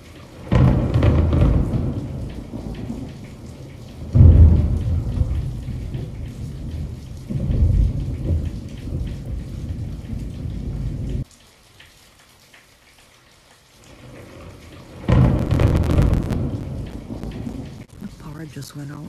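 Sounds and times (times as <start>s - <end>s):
loud thunder rumbling: 0.0s - 11.2s, 14.0s - 18.4s
rain falling: 0.0s - 19.0s.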